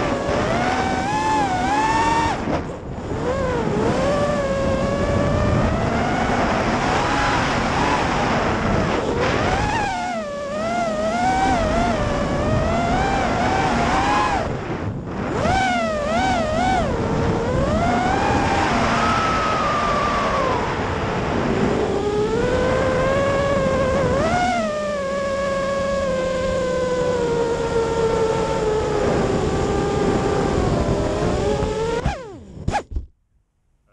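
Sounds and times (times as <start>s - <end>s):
drone motors whining: 0.0s - 33.1s
wind noise: 0.0s - 33.1s.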